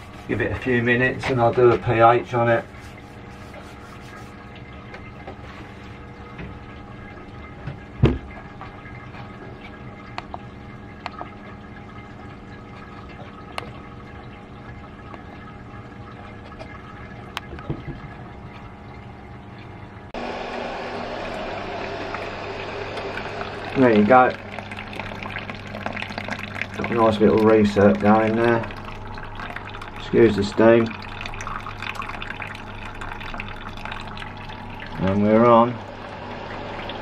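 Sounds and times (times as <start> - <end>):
liquid trickling: 0.0 - 20.2, 21.2 - 37.0
pump hum: 0.0 - 37.0.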